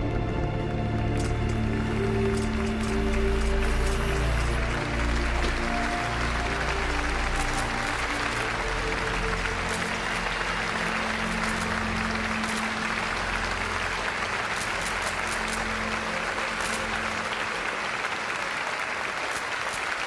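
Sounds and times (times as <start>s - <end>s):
sustained low music notes: 0.0s - 17.9s
audience applauding: 0.0s - 20.0s.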